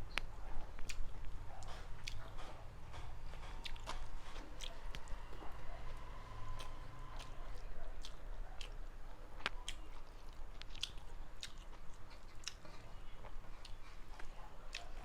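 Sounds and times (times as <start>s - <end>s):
person chewing food: 0.1s - 15.0s.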